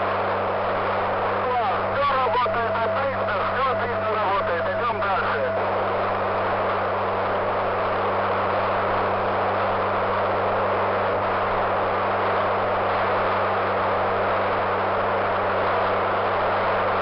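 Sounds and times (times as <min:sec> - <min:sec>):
constant low hum: 0:00.0 - 0:17.0
radio static hiss: 0:00.0 - 0:17.0.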